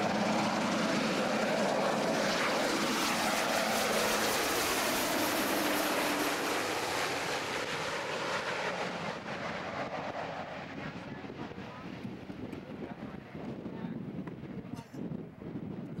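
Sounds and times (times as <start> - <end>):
helicopter engines and rotor: 0.0 - 16.0.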